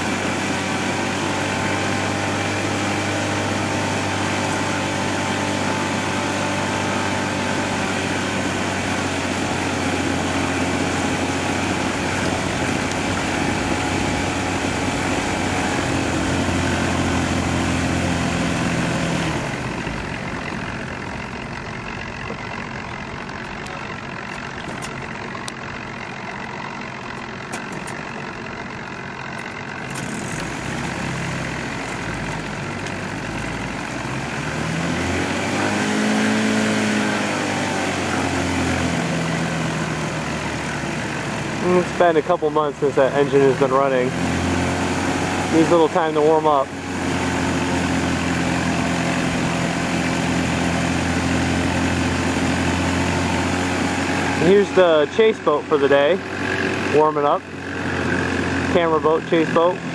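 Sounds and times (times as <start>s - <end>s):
outboard motor idling: 0.0s - 59.9s.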